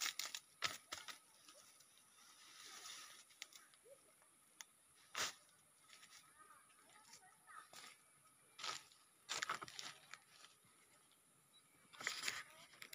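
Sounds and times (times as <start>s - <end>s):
rustling of dry leaves: 0.0s - 4.0s, 4.9s - 11.2s, 11.9s - 12.9s.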